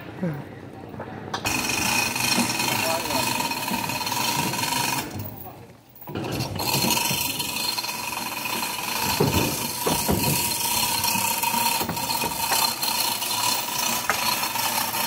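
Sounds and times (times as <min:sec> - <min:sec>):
chain rattling through hoist block: 0:01.5 - 0:15.0.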